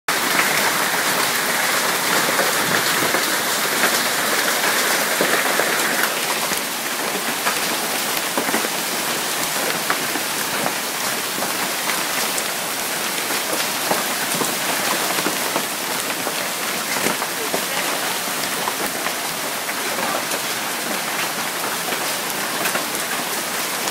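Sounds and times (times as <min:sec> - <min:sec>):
hailstones and heavy rain striking: 0:00.1 - 0:23.9.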